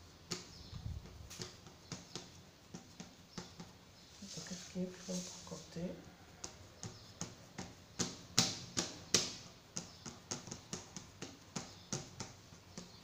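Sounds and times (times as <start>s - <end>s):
hands patting dough in metal tin: 0.1s - 13.0s.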